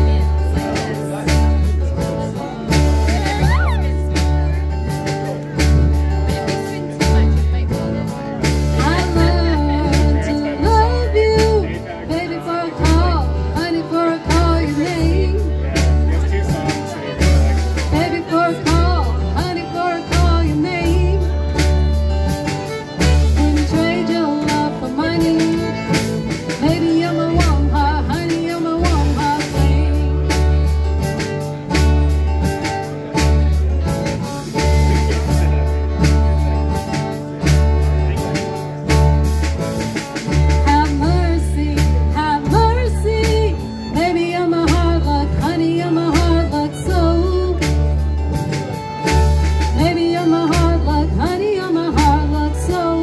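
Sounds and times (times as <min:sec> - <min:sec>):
acoustic guitar: 0:00.0 - 0:53.0
drum kit: 0:00.0 - 0:53.0
fiddle bowing melody: 0:00.0 - 0:53.0
upright bass line: 0:00.0 - 0:53.0.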